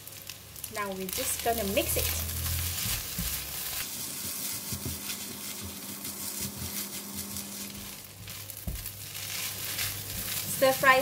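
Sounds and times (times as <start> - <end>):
rice sizzling in a wok: 0.0 - 11.0.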